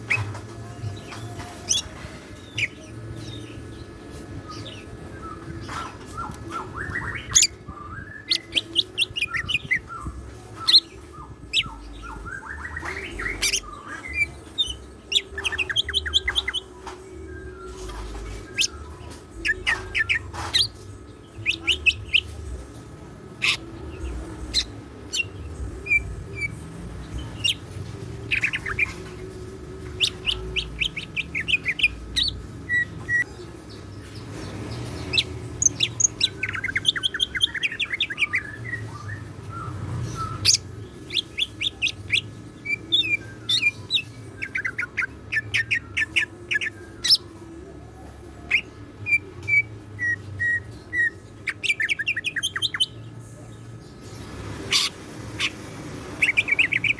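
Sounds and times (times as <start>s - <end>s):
steady low hum: 0.0s - 51.6s
bird singing chirps and trills: 0.0s - 56.9s.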